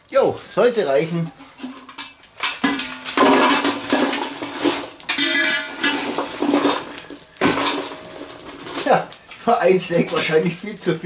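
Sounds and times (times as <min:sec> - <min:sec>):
coals clattering on metal: 0:00.2 - 0:11.0.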